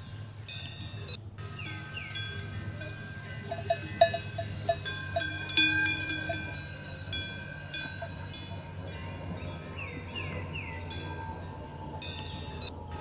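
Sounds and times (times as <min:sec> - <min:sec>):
metal bells clinking and ringing: 0:00.0 - 0:13.0
steady low hum: 0:00.0 - 0:13.0.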